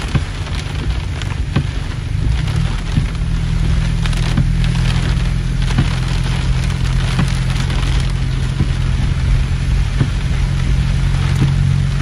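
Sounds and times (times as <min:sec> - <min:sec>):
heavy rain on a car roof: 0:00.0 - 0:12.0.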